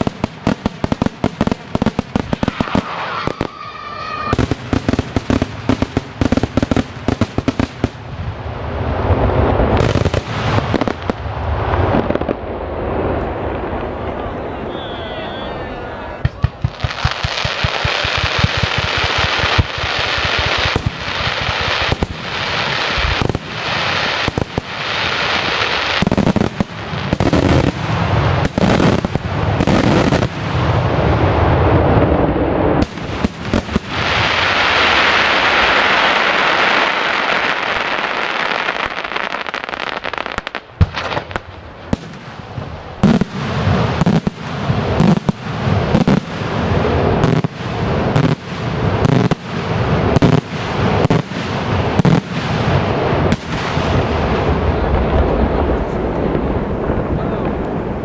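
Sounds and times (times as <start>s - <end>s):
fireworks crackling: 0.0s - 58.0s
fireworks heavy bangs: 0.0s - 58.0s.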